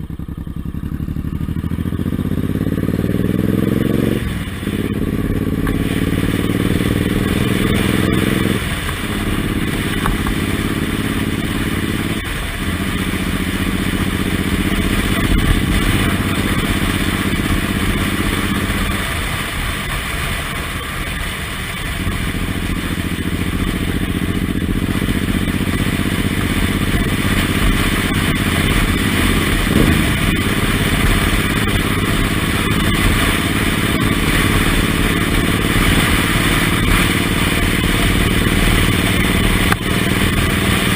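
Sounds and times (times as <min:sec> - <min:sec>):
motorcycle engine running: 0:00.0 - 0:40.9
steady rushing noise: 0:00.0 - 0:40.9.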